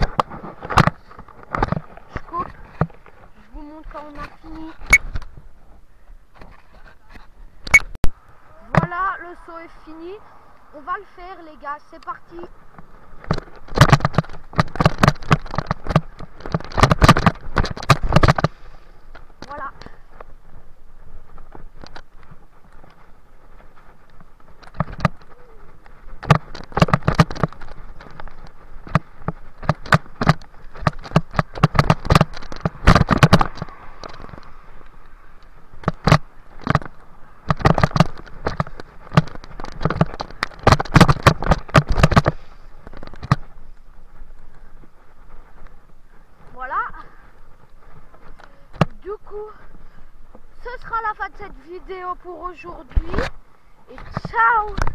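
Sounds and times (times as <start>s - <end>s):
mountain bike rattling and knocking: 0.0s - 5.2s, 12.0s - 53.3s, 53.9s - 54.9s.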